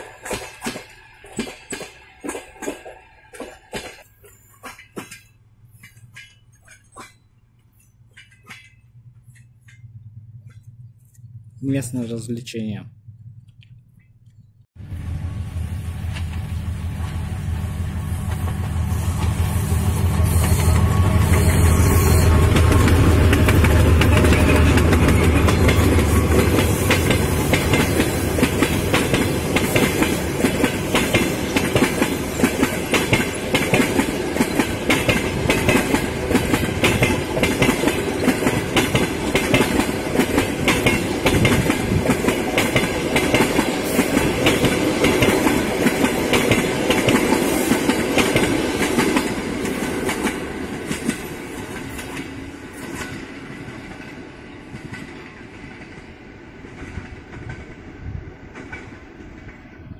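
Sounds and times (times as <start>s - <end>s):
train wheels clacking on rail joints: 0.0s - 11.3s, 18.2s - 56.0s
diesel locomotive engine rumble: 0.0s - 59.9s.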